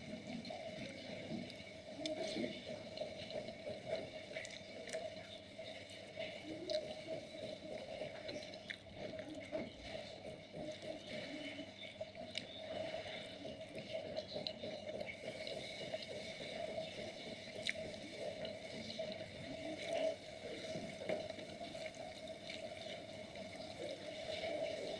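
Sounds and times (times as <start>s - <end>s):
small irregular clicks: 0.0s - 24.9s
steady background hum: 0.0s - 24.9s
wet chewing sounds: 0.0s - 24.9s.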